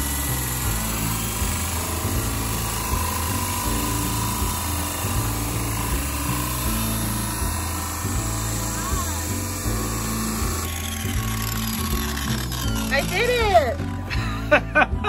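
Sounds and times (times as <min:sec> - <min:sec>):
drill with hole saw cutting: 0:00.0 - 0:14.5.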